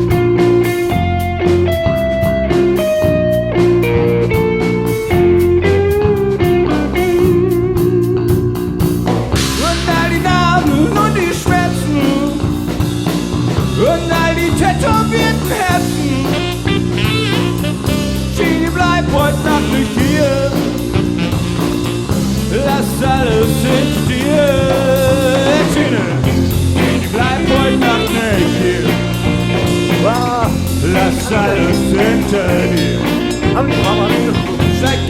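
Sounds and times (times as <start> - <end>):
rock music: 0.0 - 35.0.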